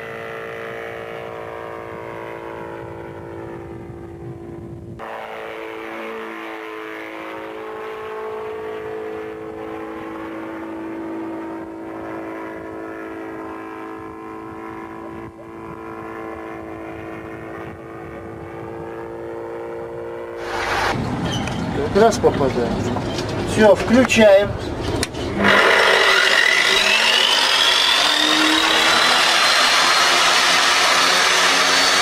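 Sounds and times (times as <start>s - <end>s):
small aircraft engine droning: 0.0s - 32.0s.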